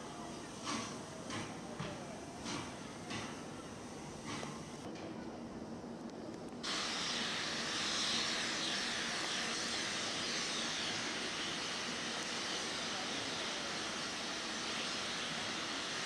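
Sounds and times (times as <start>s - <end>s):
steam locomotive hissing: 0.0s - 4.9s, 6.6s - 16.0s.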